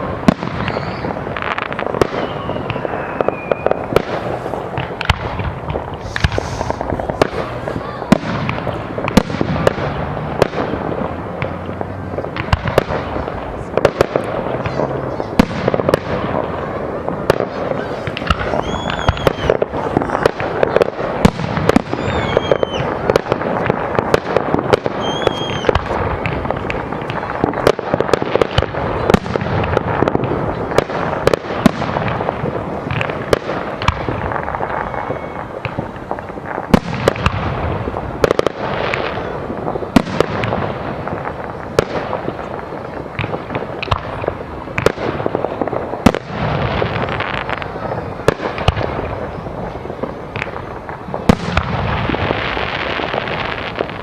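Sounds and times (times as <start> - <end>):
fireworks bangs and crackling: 0.0 - 54.0
fireworks whistles: 0.0 - 54.0.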